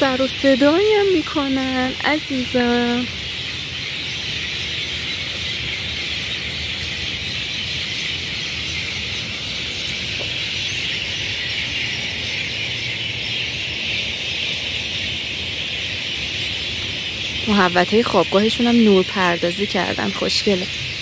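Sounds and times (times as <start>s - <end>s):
flock of birds chirping: 0.0s - 21.0s.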